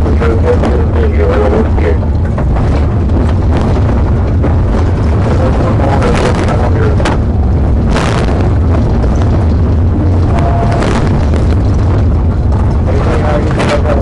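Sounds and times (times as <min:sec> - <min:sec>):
car driving at high speed: 0:00.0 - 0:14.0.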